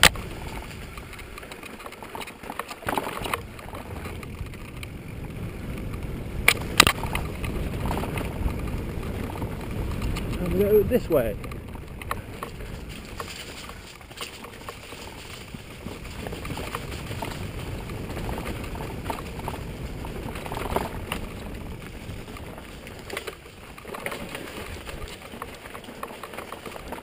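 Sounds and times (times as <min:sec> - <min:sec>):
bike rattling and knocking: 0:00.0 - 0:27.0
bike tyres on dirt: 0:00.0 - 0:27.0
wind rumbling on microphone: 0:00.0 - 0:27.0.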